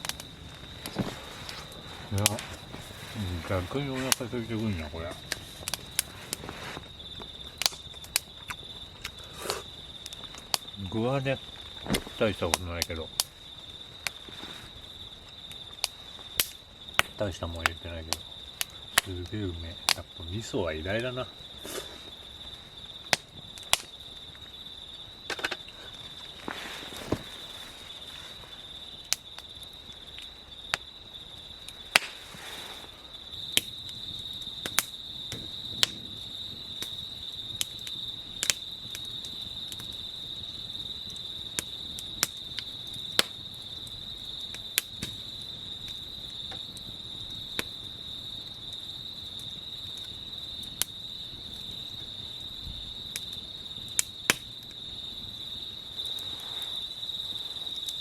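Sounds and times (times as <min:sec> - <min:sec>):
insects chirping chorus: 0:00.0 - 0:58.0.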